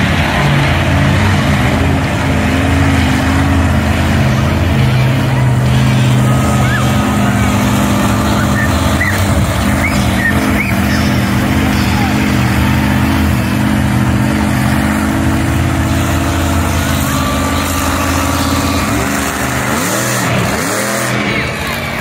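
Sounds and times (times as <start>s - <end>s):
monster truck engine running: 0.0s - 22.0s.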